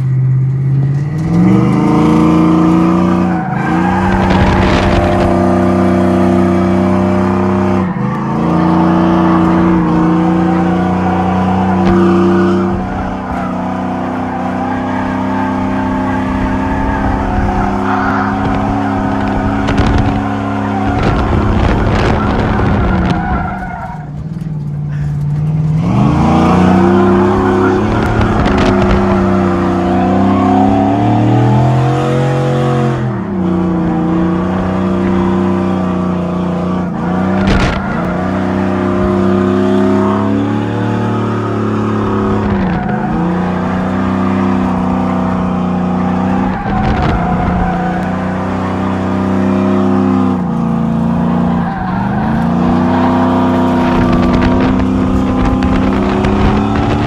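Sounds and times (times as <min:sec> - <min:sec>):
tires skidding on pavement: 0:00.0 - 0:57.0
truck engine revving hard: 0:00.0 - 0:57.0.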